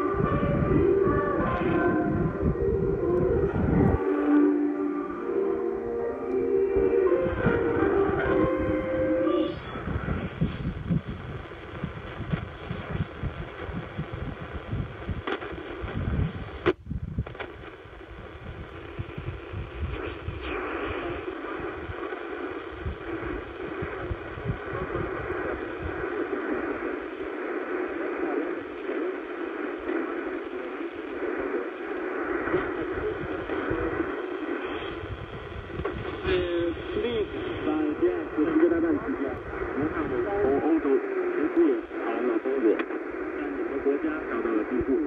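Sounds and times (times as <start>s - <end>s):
radio static: 0.0s - 45.0s
shortwave broadcast signals: 0.0s - 45.0s.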